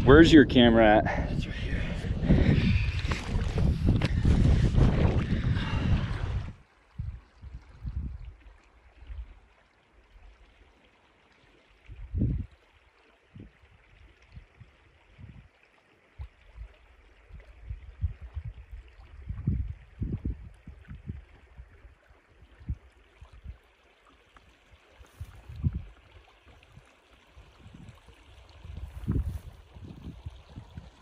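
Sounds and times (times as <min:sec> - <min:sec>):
river water running: 0:00.0 - 0:31.0.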